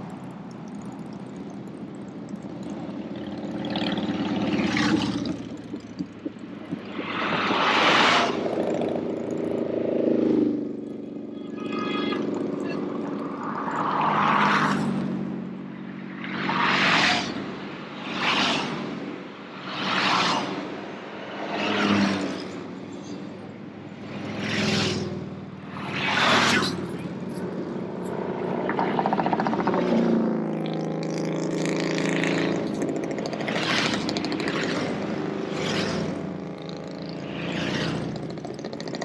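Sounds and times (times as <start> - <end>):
motorcycles riding past: 0.0 - 39.0.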